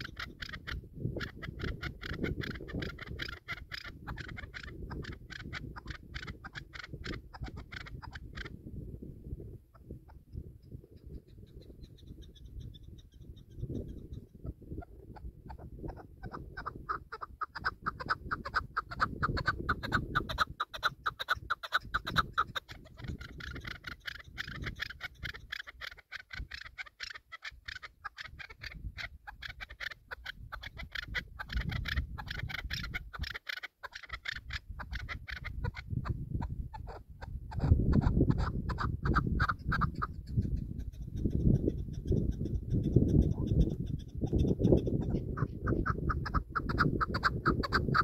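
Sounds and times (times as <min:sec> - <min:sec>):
partridge clucking calls: 0:00.0 - 0:08.6, 0:09.7 - 0:48.0
wind buffeting microphone: 0:00.0 - 0:26.8, 0:27.5 - 0:33.4, 0:34.1 - 0:48.0.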